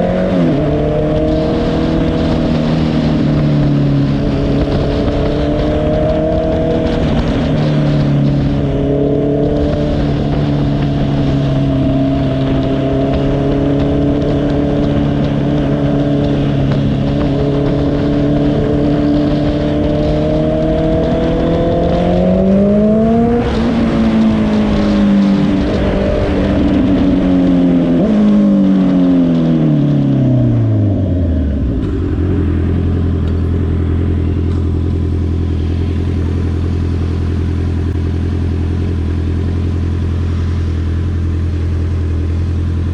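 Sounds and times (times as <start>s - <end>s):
wind rushing: 0.0s - 36.5s
motorcycle engine running: 0.0s - 42.9s.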